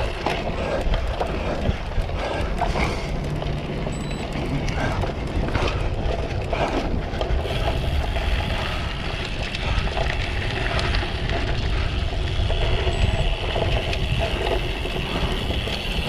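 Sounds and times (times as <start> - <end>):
bike clicks and rattles: 0.0 - 16.0
wind rumbling on microphone: 0.0 - 16.0.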